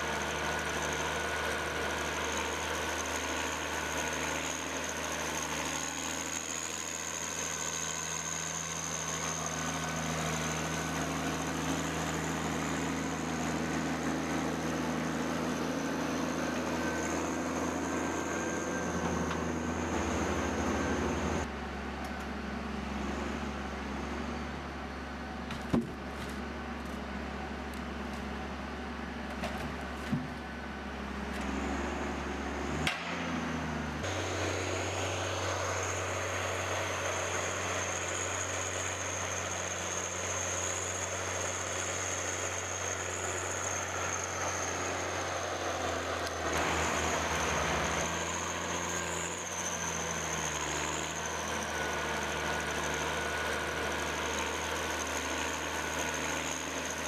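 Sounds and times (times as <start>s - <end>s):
heavy machinery engine whining: 0.0s - 57.0s.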